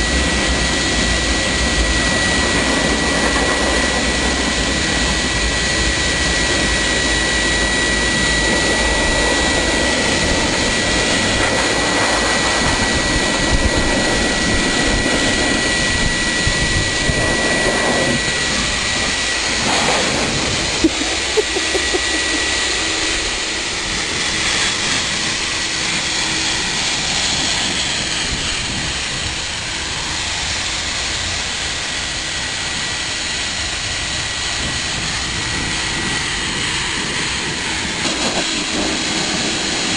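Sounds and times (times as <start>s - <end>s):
dog dryer blowing air: 0.0s - 39.9s.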